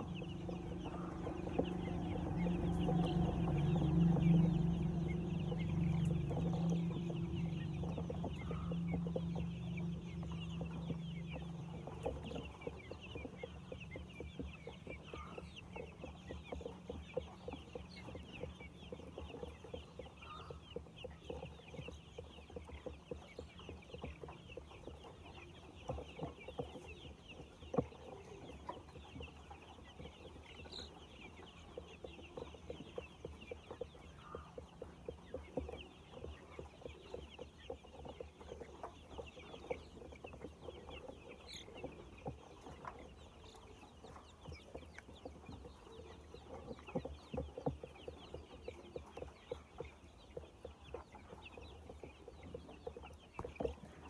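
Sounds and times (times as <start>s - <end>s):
chicks peeping and clucking: 0.0s - 54.0s.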